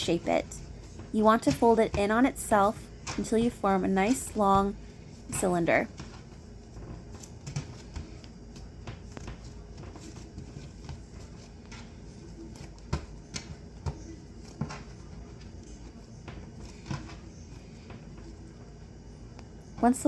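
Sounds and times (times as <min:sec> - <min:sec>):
hands patting bread dough: 0:00.0 - 0:20.0.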